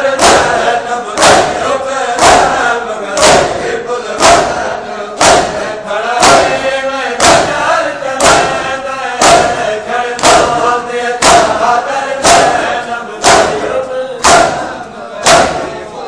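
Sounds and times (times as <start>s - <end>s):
crowd beating chests: 0.0s - 16.0s
men chanting a lament: 0.0s - 16.0s.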